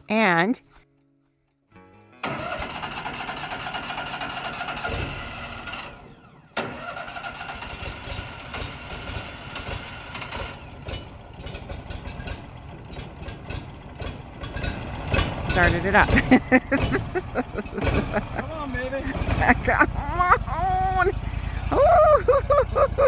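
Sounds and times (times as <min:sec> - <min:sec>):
wood chipper engine running: 0:02.2 - 0:23.0.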